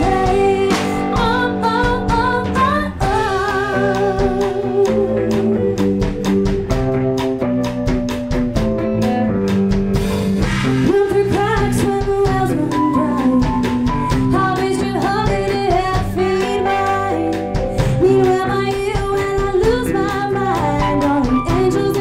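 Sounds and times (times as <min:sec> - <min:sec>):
person singing: 0:00.0 - 0:06.7, 0:10.8 - 0:22.0
drum kit: 0:00.0 - 0:22.0
electric bass: 0:00.0 - 0:22.0
electric guitar: 0:00.0 - 0:22.0.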